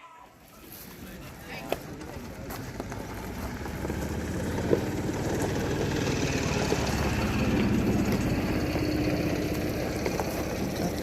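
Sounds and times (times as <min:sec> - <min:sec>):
vehicle engine rumbling: 0:00.4 - 0:11.0.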